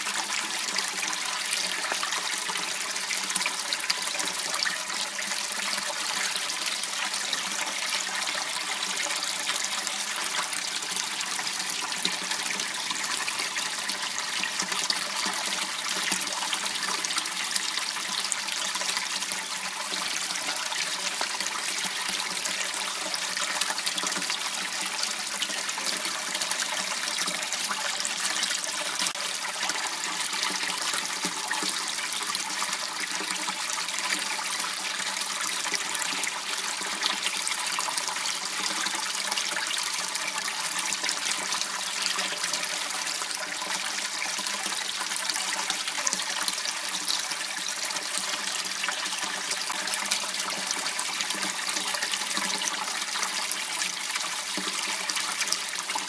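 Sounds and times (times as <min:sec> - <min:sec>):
water trickling in a stream: 0:00.0 - 0:56.0.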